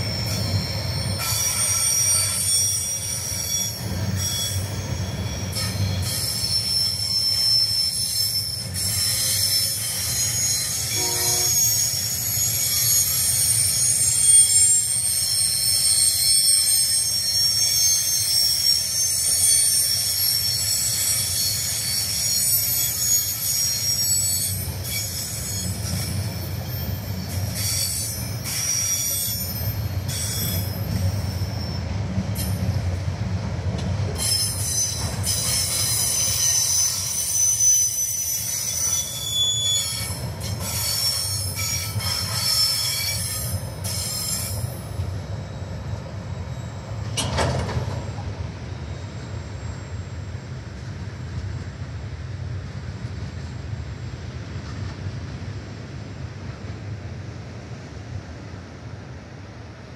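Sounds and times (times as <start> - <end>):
low train rumble: 0.0 - 59.9
steel wheels squealing on rail: 0.0 - 59.9.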